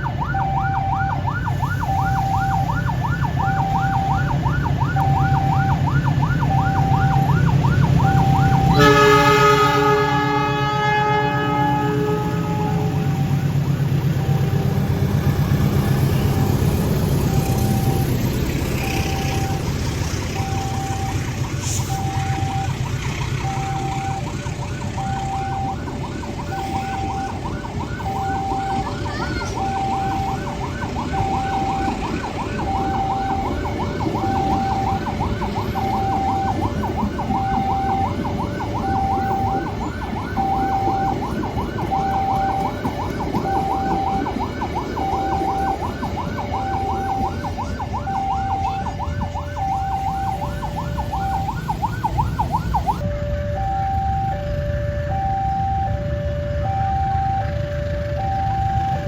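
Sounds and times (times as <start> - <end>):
train rumble: 0.0 - 59.0
two-tone crossing alarm: 0.0 - 59.0.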